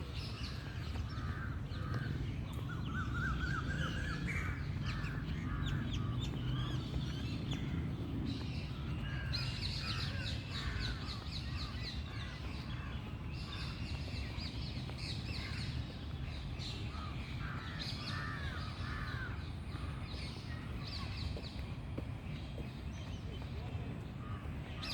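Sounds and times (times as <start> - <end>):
birds calling and chirping: 0.0 - 24.9
steady low rumble: 0.0 - 24.9.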